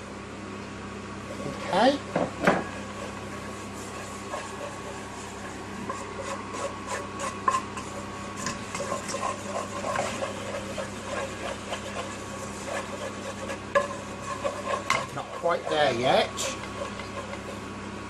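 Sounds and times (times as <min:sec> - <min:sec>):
steady low hum: 0:00.0 - 0:18.0
whisk scraping a saucepan: 0:01.3 - 0:18.0.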